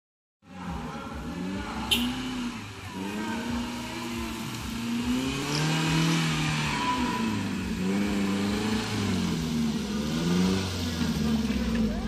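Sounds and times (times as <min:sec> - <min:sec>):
off-road vehicle engine revving: 0:00.4 - 0:12.0.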